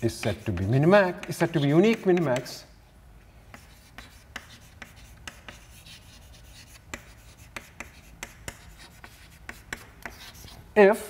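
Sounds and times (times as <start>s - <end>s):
chalk tapping and scratching: 0.0s - 2.6s, 3.5s - 10.6s.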